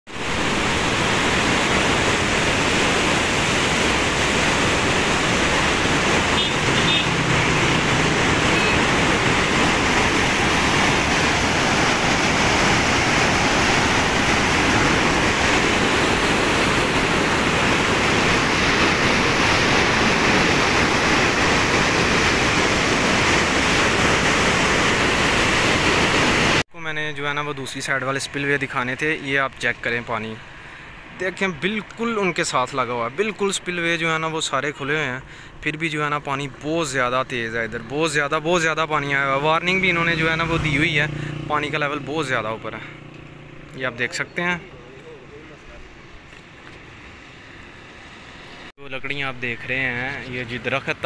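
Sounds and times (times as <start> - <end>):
floodwater rushing through spillway: 0.1 - 26.6, 27.9 - 48.5.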